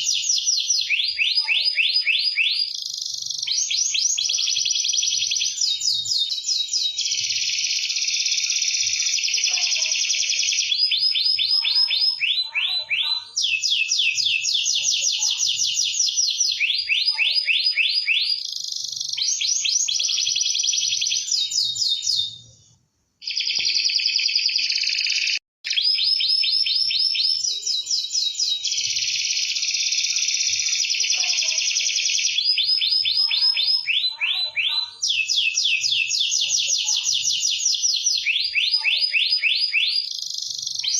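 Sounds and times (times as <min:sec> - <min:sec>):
canary singing trills: 0:00.0 - 0:22.6, 0:23.2 - 0:40.9.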